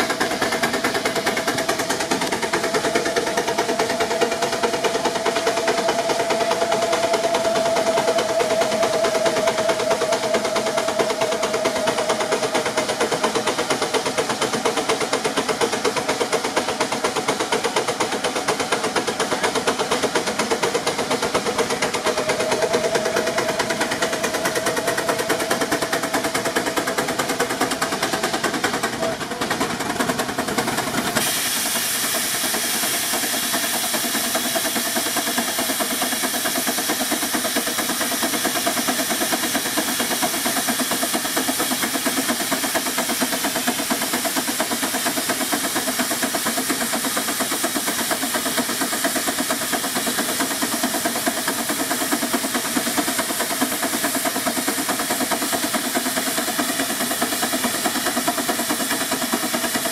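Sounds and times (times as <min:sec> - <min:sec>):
steam engine exhaust chuffs: 0:00.0 - 0:59.9
steam hissing: 0:00.0 - 0:59.9.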